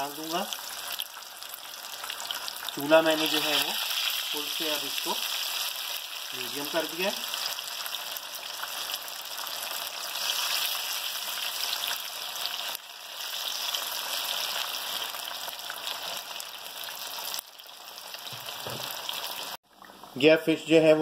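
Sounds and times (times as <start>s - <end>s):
fish deep-frying in hot oil: 0.0s - 20.1s.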